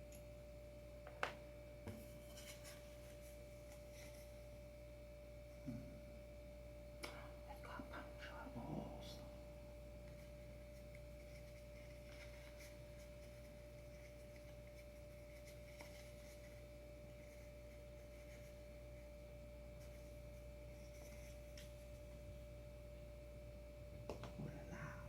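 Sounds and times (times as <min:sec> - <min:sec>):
faint steady whine: 0:00.0 - 0:25.0.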